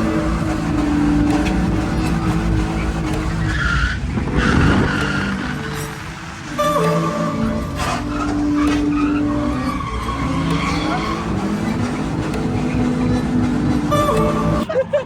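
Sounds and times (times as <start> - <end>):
car engine revving hard: 0.0 - 14.7
tyres skidding and squealing: 0.0 - 15.0.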